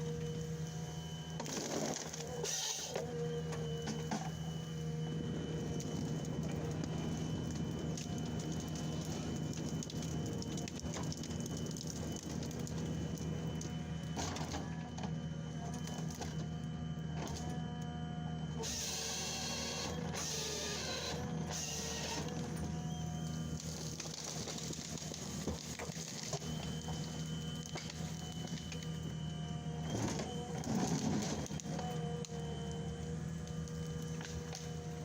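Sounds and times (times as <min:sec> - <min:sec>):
hydraulic whine: 0:00.0 - 0:35.0.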